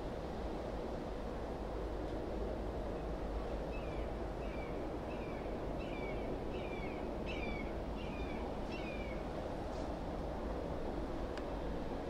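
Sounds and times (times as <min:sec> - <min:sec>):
low outdoor rush: 0:00.0 - 0:12.0.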